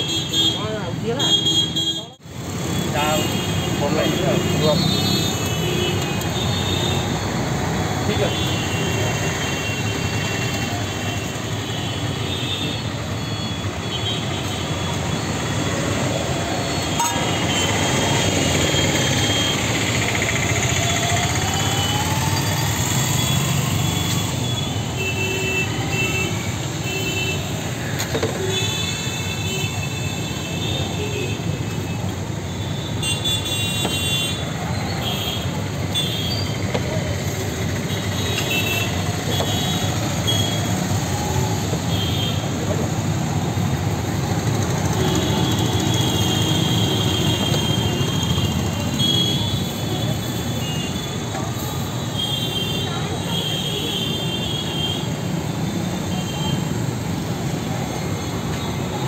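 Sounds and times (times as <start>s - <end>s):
road traffic: 0.0s - 59.0s
vehicles passing: 0.0s - 59.0s.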